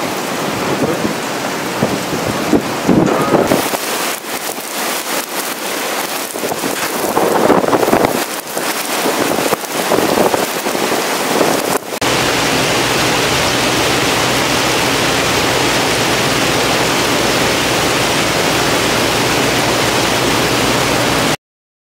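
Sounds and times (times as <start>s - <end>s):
heavy rain hissing: 0.0s - 21.4s
wind gusting across microphone: 0.0s - 21.4s
hail pelting pavement: 3.4s - 21.4s.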